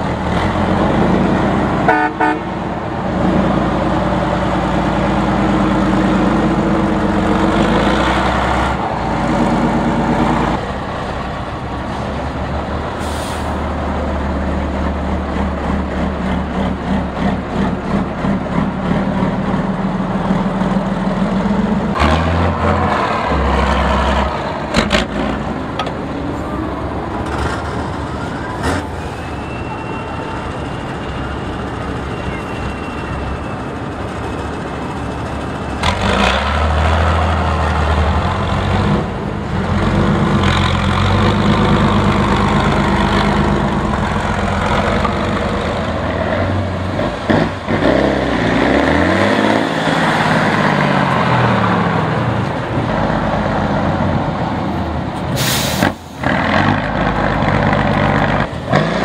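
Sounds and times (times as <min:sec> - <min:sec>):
truck diesel engine under load: 0:00.0 - 0:59.0.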